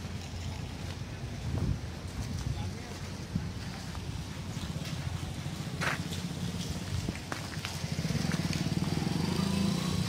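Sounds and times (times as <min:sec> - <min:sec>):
engine running at low speed: 0:00.0 - 0:10.0.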